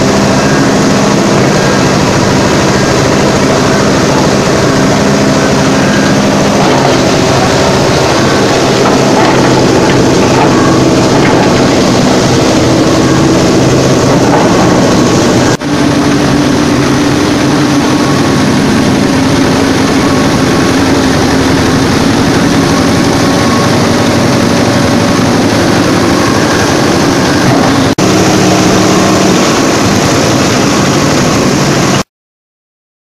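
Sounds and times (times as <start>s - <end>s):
chopper grinding corn cobs: 0.0s - 32.0s
diesel engine running: 0.0s - 32.1s.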